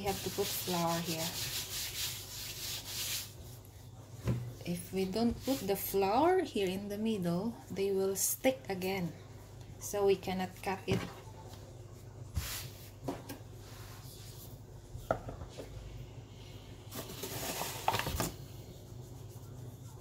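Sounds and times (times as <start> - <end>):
hands rustling dough: 0.0 - 15.1, 16.8 - 20.0.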